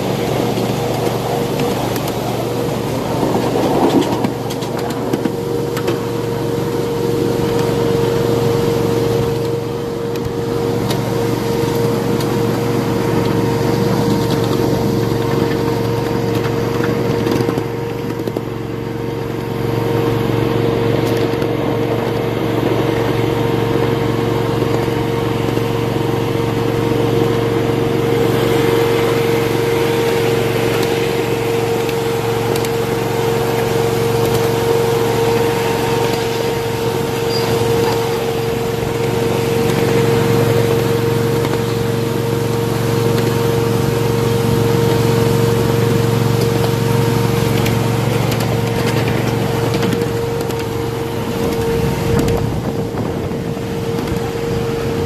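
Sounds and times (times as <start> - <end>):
miniature train whine and drone: 0.0 - 55.0
rushing ride noise: 0.0 - 55.0.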